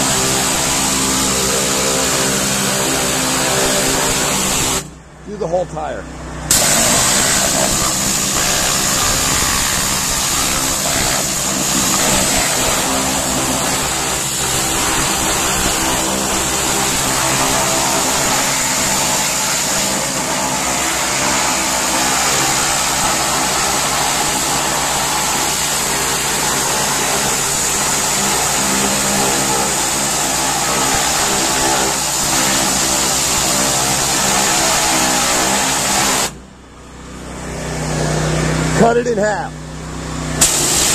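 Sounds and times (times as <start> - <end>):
high-pressure water jet hissing: 0.0 - 4.9, 6.5 - 36.4, 40.4 - 40.9
pressure washer engine running: 0.0 - 40.9.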